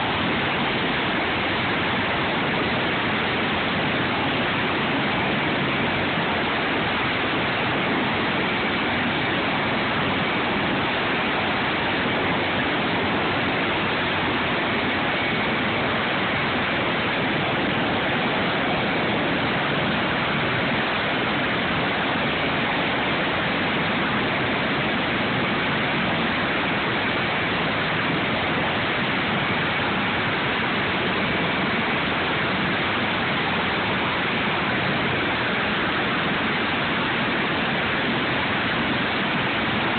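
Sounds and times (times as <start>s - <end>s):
faint high whine: 0.0s - 39.9s
helicopter engines and rotor rushing: 0.0s - 39.9s.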